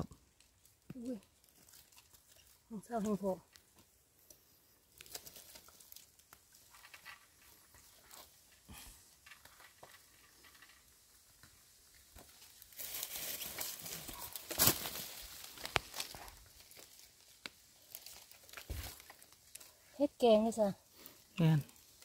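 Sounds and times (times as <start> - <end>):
rustling and crackling: 0.0 - 22.0.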